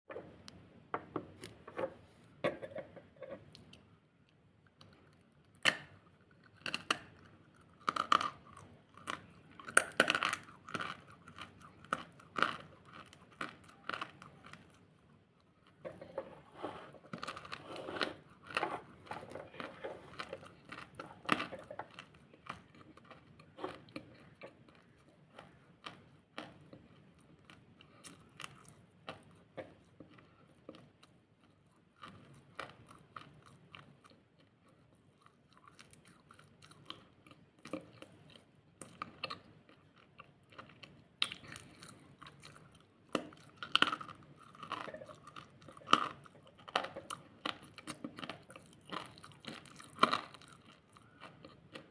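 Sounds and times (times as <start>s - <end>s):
chewing crunchy food: 2.5s - 51.9s.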